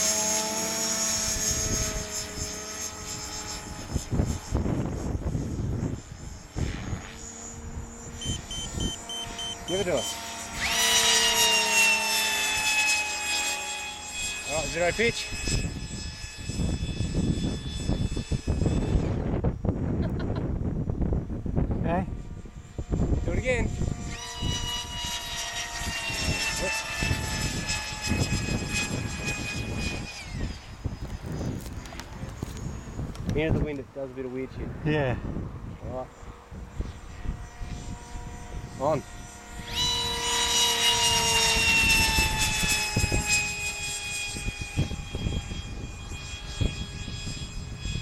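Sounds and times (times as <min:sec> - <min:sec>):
electric helicopter whine: 0:00.0 - 0:48.0.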